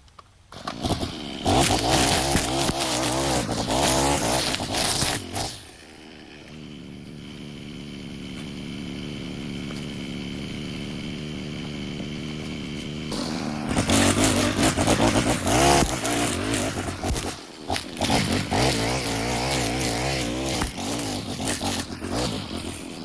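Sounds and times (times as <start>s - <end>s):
small gasoline engine revving: 0.5s - 23.0s.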